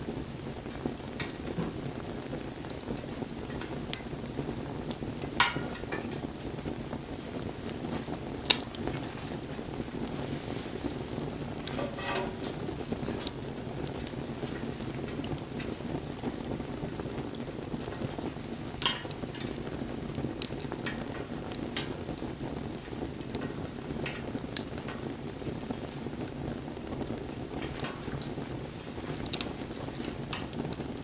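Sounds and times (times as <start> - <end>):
bonfire flames rushing: 0.0 - 31.0
fire crackles and pops: 0.0 - 31.0.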